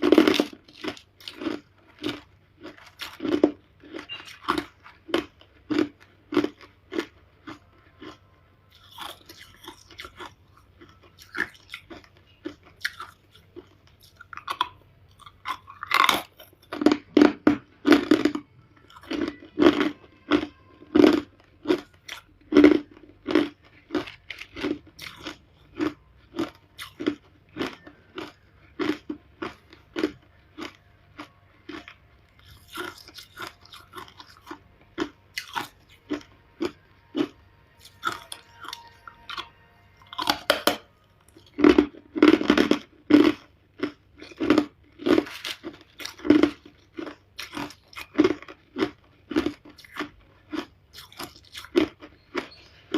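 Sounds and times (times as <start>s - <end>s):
ice crunching being chewed: 0.0s - 52.9s.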